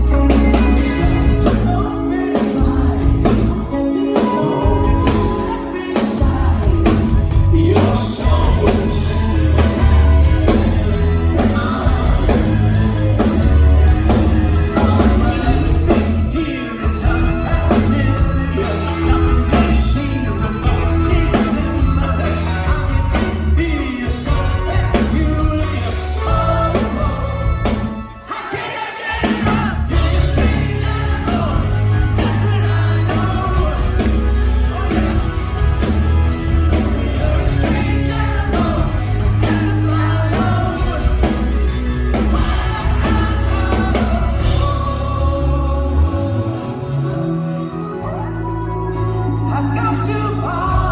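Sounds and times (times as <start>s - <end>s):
person singing: 0.0s - 50.9s
rock band playing live: 0.0s - 50.9s.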